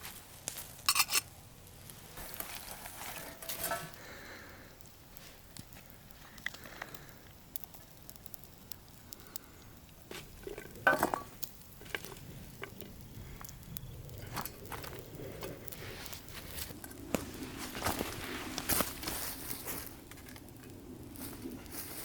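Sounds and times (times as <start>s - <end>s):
food sizzling over fire: 0.0s - 22.0s.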